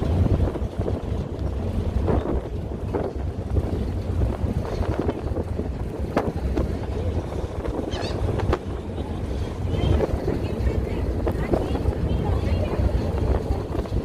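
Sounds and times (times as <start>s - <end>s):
ferry engine rumble: 0.0s - 14.0s
wind buffeting microphone: 0.0s - 14.0s.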